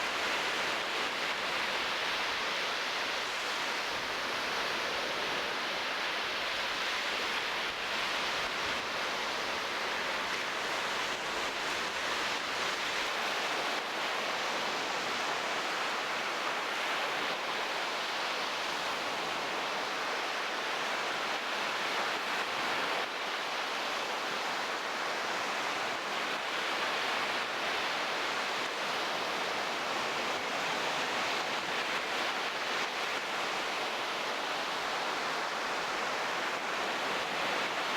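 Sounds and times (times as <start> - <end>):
waves washing on shore: 0.0 - 37.9.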